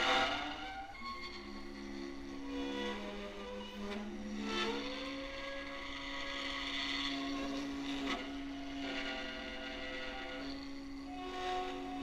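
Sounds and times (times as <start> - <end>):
scratchy bow noise: 0.0 - 12.0.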